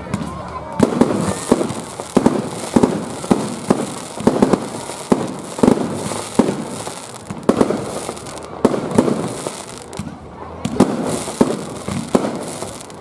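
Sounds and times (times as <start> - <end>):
firework shells bursting: 0.8 - 10.0, 10.8 - 13.0
steady high hiss: 0.9 - 13.0.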